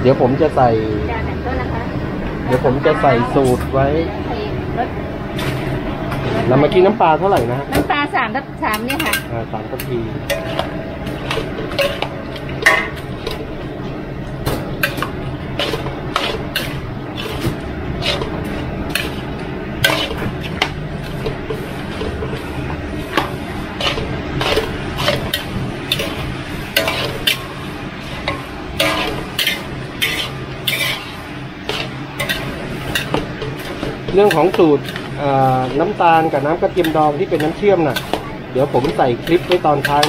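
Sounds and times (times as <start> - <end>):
steady low hum: 0.0 - 40.0
spatula and spoon scraping wok: 2.3 - 40.0.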